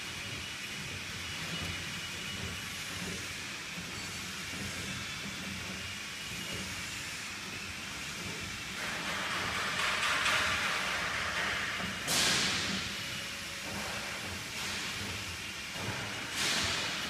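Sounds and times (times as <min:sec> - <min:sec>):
machine rollers rumbling and hissing: 0:00.0 - 0:17.0.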